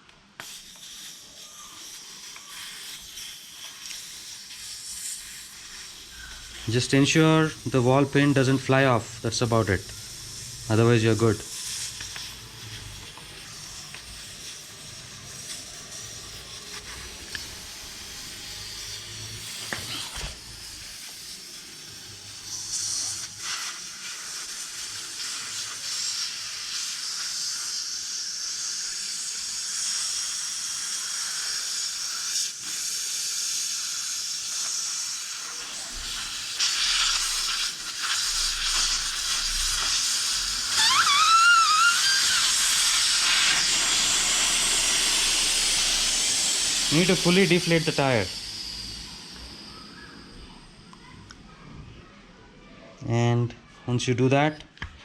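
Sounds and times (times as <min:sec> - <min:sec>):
air hissing out of tyre valve: 0:00.0 - 0:51.0.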